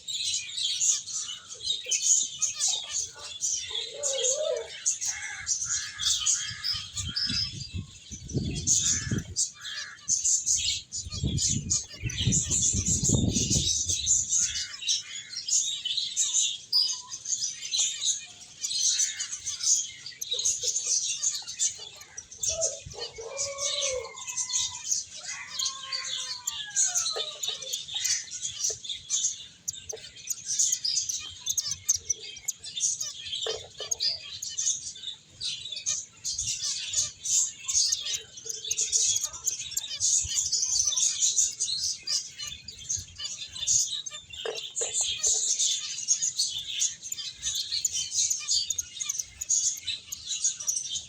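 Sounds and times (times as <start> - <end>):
finches chirping: 0.0 - 51.0.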